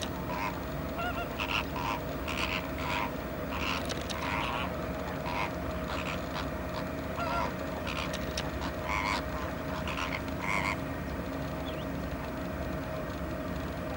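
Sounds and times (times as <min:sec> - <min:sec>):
flamingos honking: 0:00.0 - 0:13.9
low background hum: 0:00.0 - 0:13.9.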